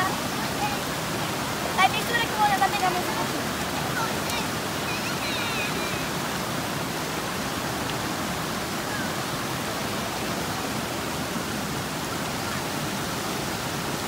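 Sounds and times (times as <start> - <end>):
waterfall rushing over rock: 0.0 - 14.0.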